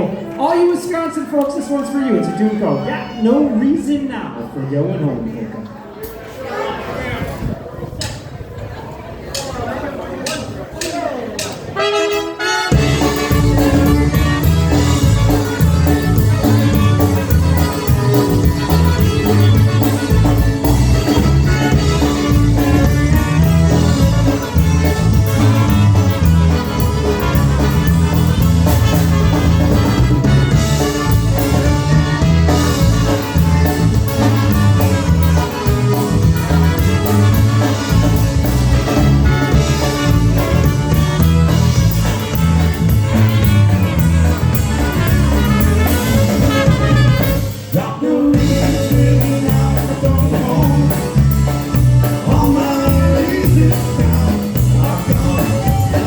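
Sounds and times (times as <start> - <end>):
polka band playing: 0.0 - 4.6, 10.2 - 56.0.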